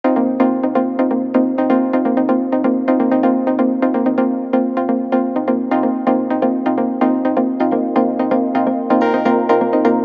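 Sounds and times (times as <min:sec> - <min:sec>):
plucked synth notes: 0:00.1 - 0:10.0.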